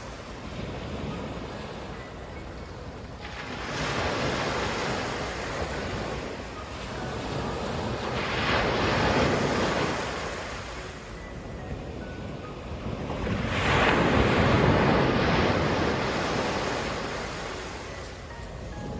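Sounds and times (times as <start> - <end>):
wind rumble on microphone: 0.0 - 18.9
sea waves washing onto shore: 3.1 - 18.9.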